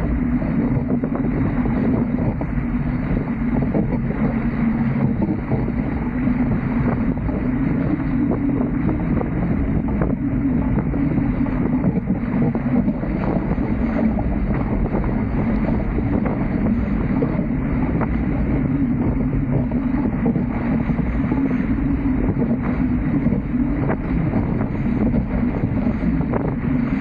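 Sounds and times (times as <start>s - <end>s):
water rushing past hulls: 0.0s - 27.0s
wind buffeting microphone: 0.0s - 27.0s.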